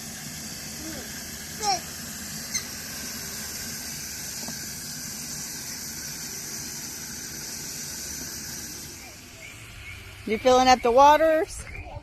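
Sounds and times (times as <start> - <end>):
water running from a hose: 0.0 - 11.6.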